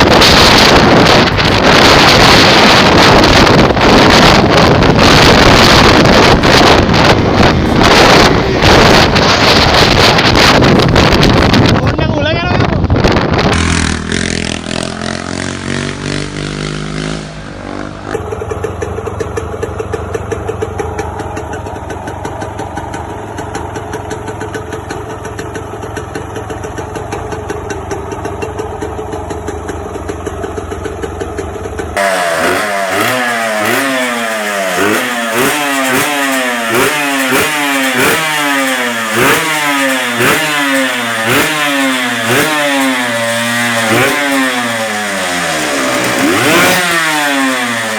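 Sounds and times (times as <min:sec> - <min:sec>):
motorcycle engine revving: 0:00.0 - 0:12.0, 0:12.9 - 0:47.9
motorcycle engine idling: 0:00.0 - 0:12.1, 0:17.8 - 0:47.9.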